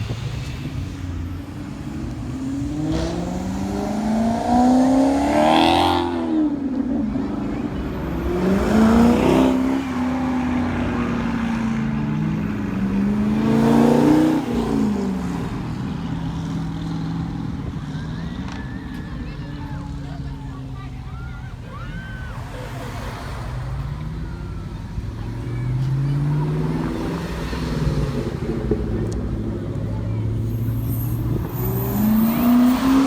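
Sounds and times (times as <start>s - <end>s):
old car engines passing: 0.0s - 33.0s.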